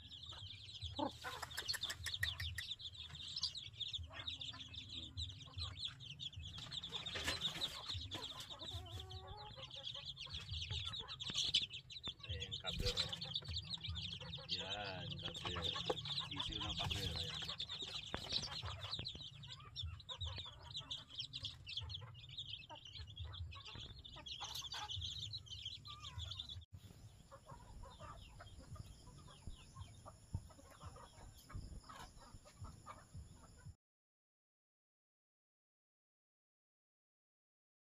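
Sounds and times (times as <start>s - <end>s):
chickens clucking: 0.0s - 33.7s
chicks peeping: 0.0s - 33.7s.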